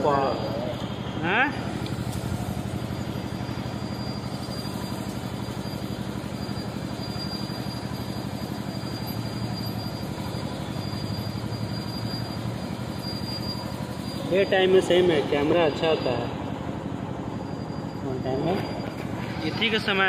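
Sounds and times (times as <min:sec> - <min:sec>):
thin high whine: 0:00.0 - 0:20.0.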